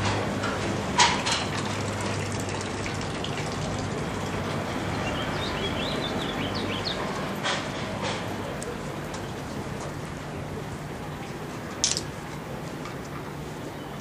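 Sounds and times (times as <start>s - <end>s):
street noise hiss: 0.0s - 14.0s.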